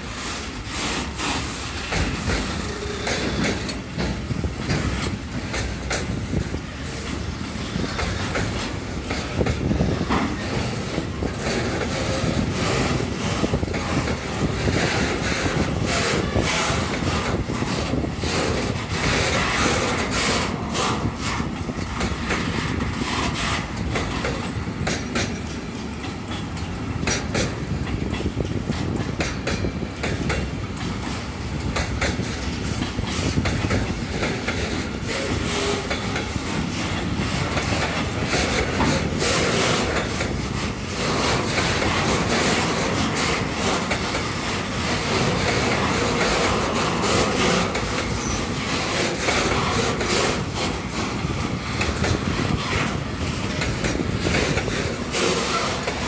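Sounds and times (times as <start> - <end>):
train wheels clattering over rail joints: 0.0 - 56.0.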